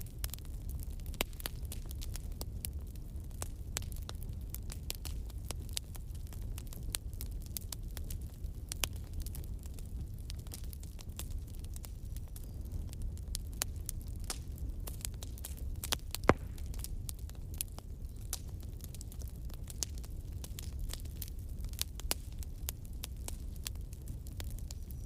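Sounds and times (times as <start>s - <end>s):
bonfire crackling and popping: 0.0s - 25.0s.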